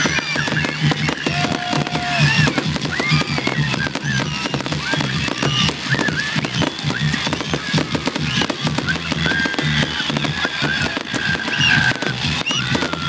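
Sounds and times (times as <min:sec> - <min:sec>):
fireworks crackles and bangs: 0:00.0 - 0:13.0
high gliding firework whistles: 0:00.0 - 0:13.0.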